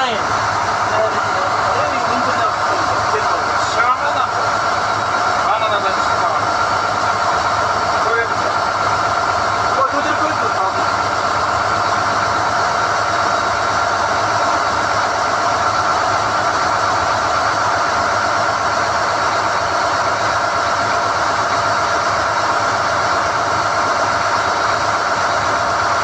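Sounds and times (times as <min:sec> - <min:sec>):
drilling rig drone: 0:00.0 - 0:26.0
high machine whine: 0:00.0 - 0:26.0.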